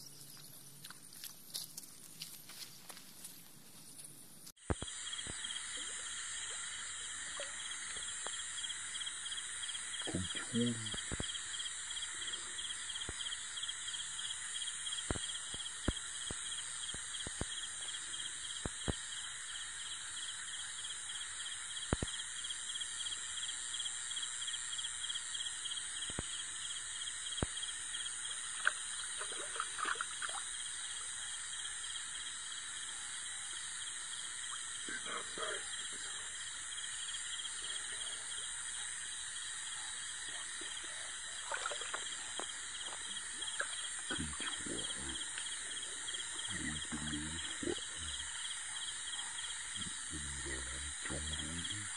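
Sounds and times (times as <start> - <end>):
high-pitched insect calls: 0.0 - 51.9
pulsing insect trill: 0.0 - 51.9.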